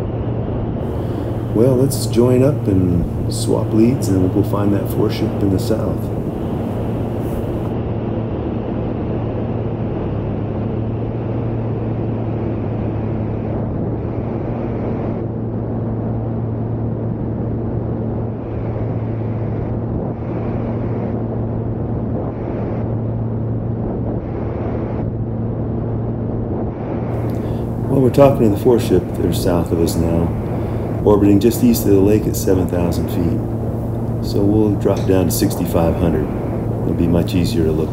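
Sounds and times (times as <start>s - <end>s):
light aircraft engine drone: 0.0s - 37.9s.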